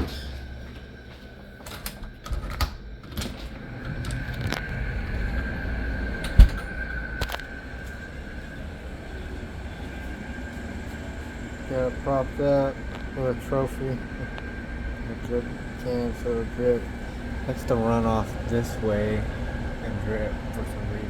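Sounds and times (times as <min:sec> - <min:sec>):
air conditioner humming: 0:00.0 - 0:21.0
high whine: 0:00.0 - 0:21.0.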